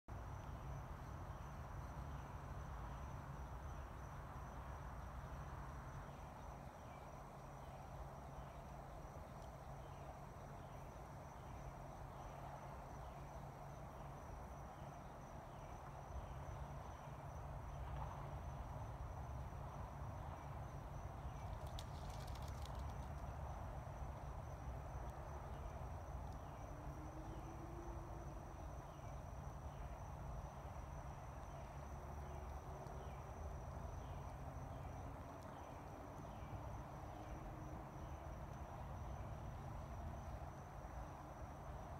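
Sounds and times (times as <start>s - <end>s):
insects chirping: 0.1s - 41.9s.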